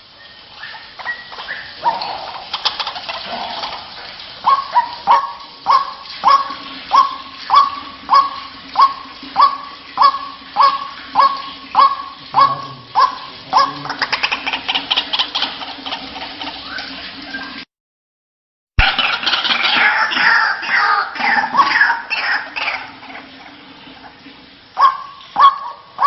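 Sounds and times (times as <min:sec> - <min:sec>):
waterhen croaking notes: 0:00.0 - 0:17.6, 0:18.8 - 0:26.0
waterhen sharp kwak calls: 0:00.2 - 0:17.6, 0:18.8 - 0:24.2, 0:24.8 - 0:26.0.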